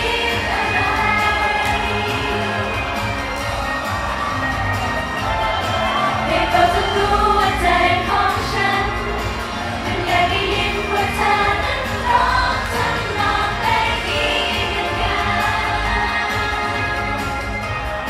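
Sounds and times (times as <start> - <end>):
group singing pop song live: 0.0 - 18.0
pop backing track: 0.0 - 18.0.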